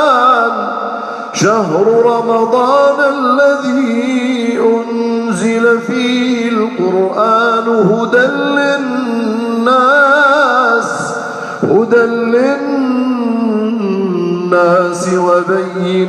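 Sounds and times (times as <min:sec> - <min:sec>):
man chanting recitation: 0:00.0 - 0:16.0.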